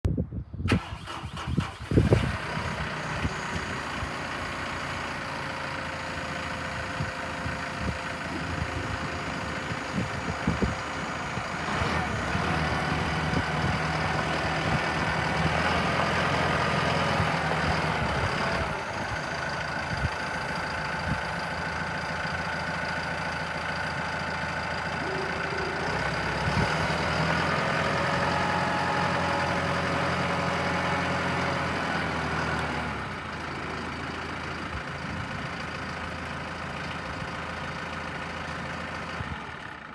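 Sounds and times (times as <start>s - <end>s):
tractor diesel engine running: 0.6s - 39.9s.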